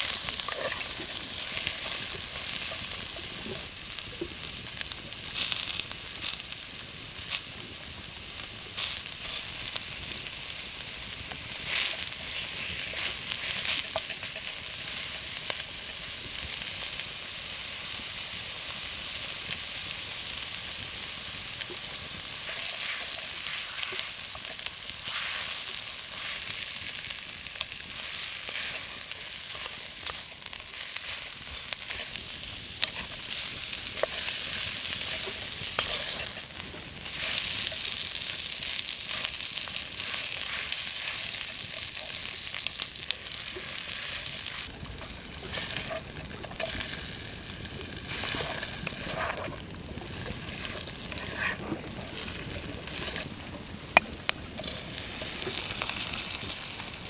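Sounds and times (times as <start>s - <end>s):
stirring crackles and scrapes: 0.0s - 17.9s, 20.7s - 57.0s
vegetables sizzling in fat: 0.0s - 57.0s.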